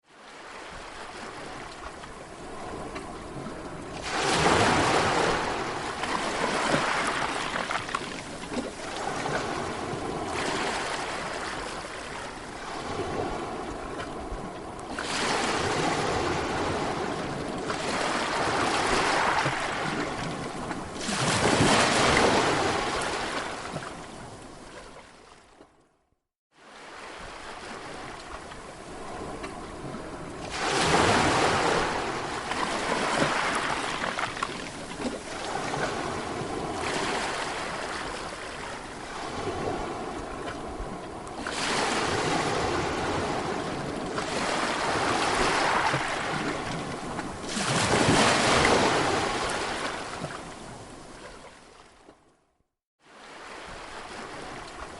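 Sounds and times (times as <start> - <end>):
sea waves breaking: 0.0 - 25.8, 26.5 - 52.2, 53.0 - 54.9.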